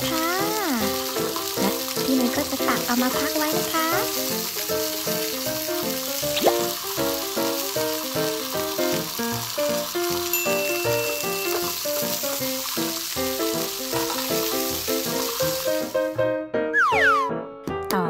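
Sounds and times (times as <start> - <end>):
sizzling frying: 0.0 - 16.2.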